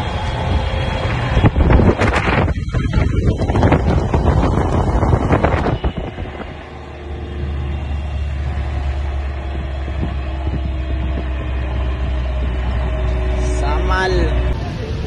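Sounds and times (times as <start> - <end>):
vehicle engine droning: 0.0 - 15.0
wind buffeting microphone: 0.0 - 15.0.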